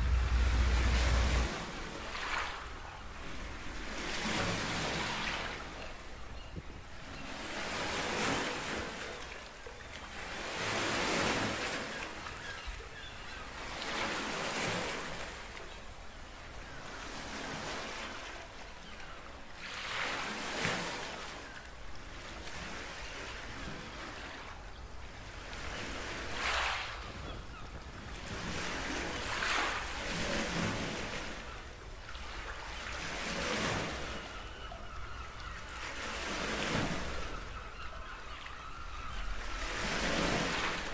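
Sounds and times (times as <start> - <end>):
small waves washing onto beach: 0.0 - 6.2, 6.8 - 38.4, 39.0 - 40.9.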